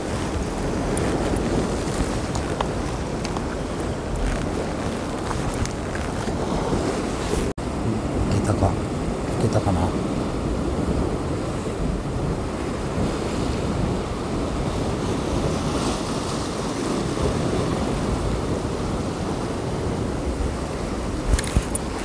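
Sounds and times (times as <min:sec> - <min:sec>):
sea surf: 0:00.0 - 0:22.0
wind rumbling on microphone: 0:00.0 - 0:22.0.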